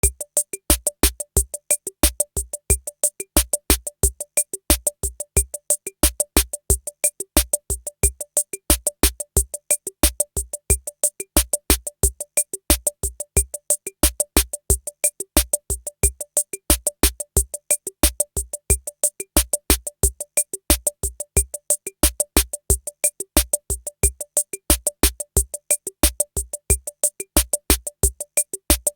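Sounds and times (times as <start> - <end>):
drum machine rhythm: 0.0 - 28.9.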